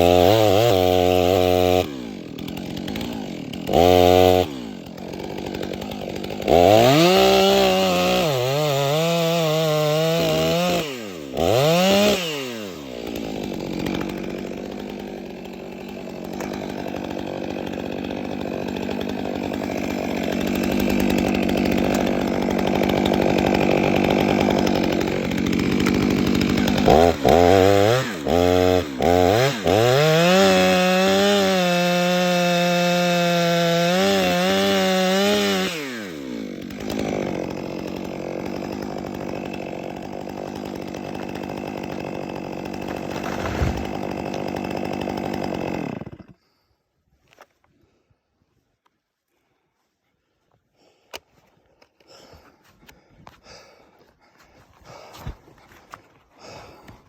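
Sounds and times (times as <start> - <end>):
chainsaw cutting wood: 0.0 - 48.0, 50.8 - 57.0.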